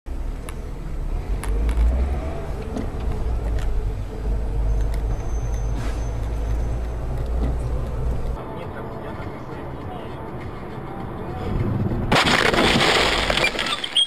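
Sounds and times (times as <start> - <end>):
car engine and road rumble: 0.1 - 14.0.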